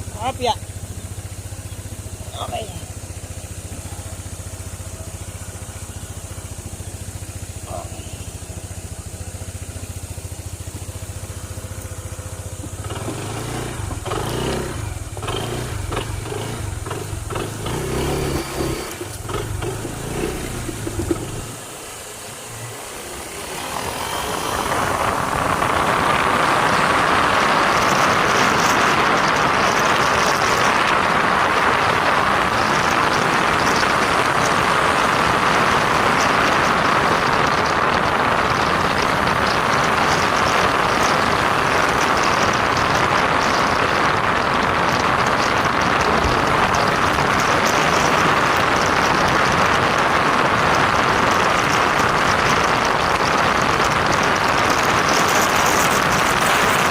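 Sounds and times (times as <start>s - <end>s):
scooter engine riding: 0.0s - 56.9s
rushing air: 3.0s - 56.9s.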